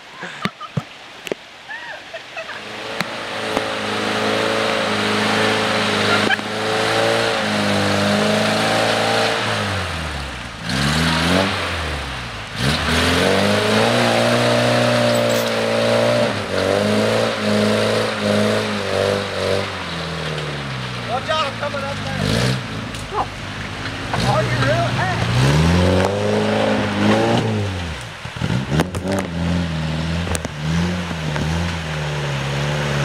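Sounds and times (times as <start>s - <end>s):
truck engine revving hard: 2.6s - 33.0s.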